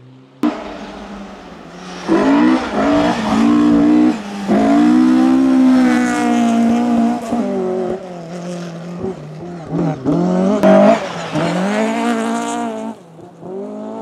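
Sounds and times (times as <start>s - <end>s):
rally car engine at high revs: 0.4s - 14.0s.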